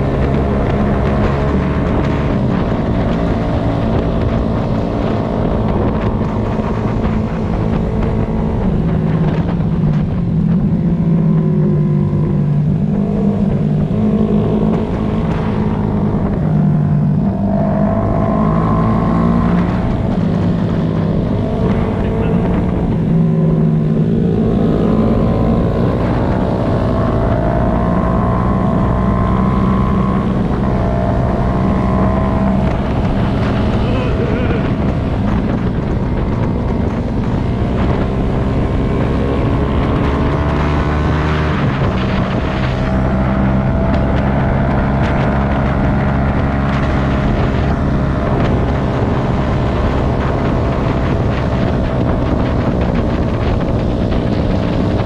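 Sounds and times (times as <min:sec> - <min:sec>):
motorcycle engine revving: 0:00.0 - 0:55.0
wind on microphone: 0:00.0 - 0:55.0.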